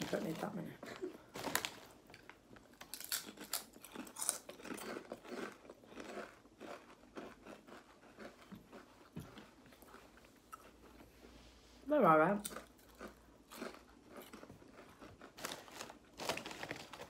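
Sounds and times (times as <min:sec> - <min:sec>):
crisps crunching: 0:00.0 - 0:11.1, 0:12.4 - 0:17.0
people chewing: 0:00.8 - 0:11.4, 0:12.4 - 0:17.0.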